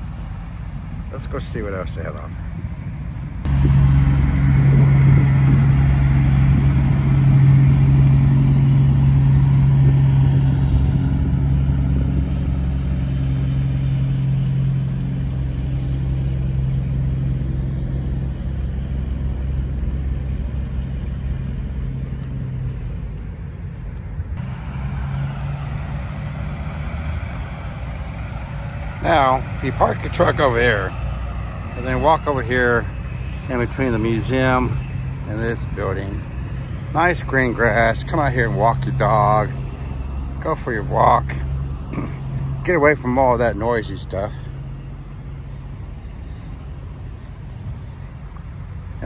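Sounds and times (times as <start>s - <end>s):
diesel truck engine driving past: 0.0s - 49.0s.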